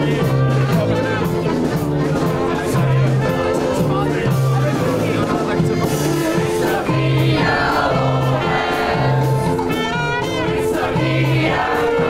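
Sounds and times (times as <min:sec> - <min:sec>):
voices singing with band: 0:00.0 - 0:12.0.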